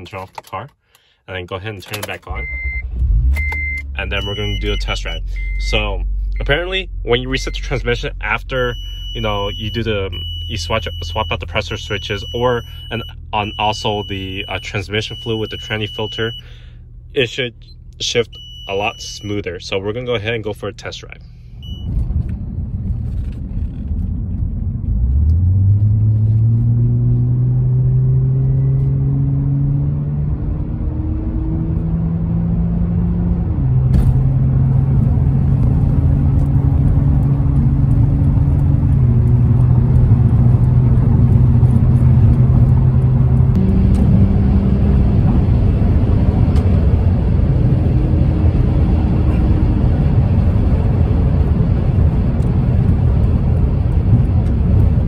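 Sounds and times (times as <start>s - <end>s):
road rumble: 0.0s - 55.0s
car engine accelerating: 2.4s - 16.3s, 21.6s - 55.0s.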